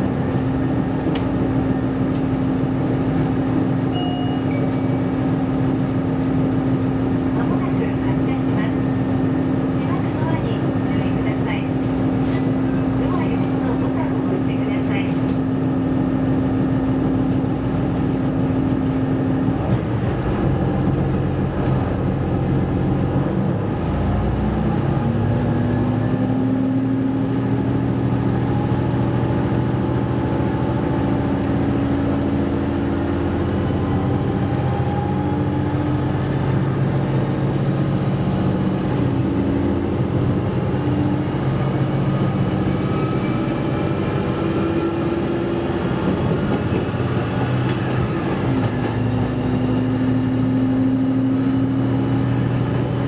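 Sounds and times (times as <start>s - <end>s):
diesel railcar engine rising: 0.0s - 53.0s
wheels rumbling on rail: 0.0s - 53.0s.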